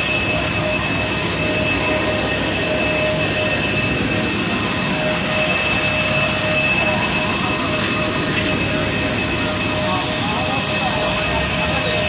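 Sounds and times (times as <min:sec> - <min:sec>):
high-pitched whining tones: 0:00.0 - 0:12.0
jet turbine roar: 0:00.0 - 0:12.0.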